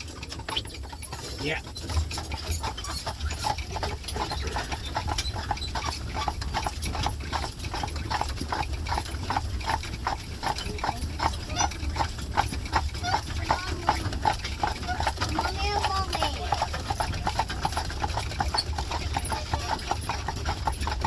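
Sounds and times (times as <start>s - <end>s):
horse hooves clip-clopping on road: 0.0s - 21.0s.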